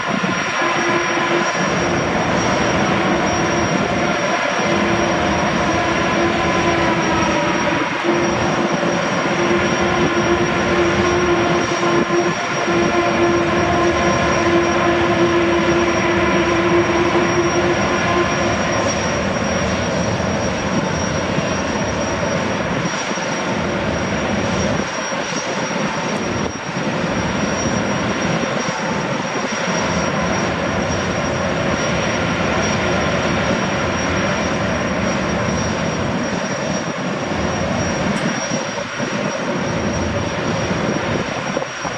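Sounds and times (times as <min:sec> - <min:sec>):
faint gas turbines running: 0:00.0 - 0:41.9
mechanical noise with whine: 0:00.0 - 0:41.9.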